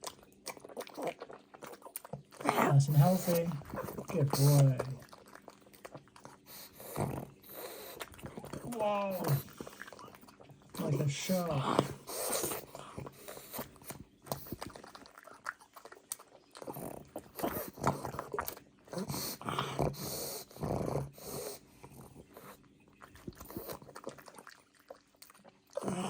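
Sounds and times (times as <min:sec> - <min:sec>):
dog chewing and crunching: 0:00.0 - 0:26.0.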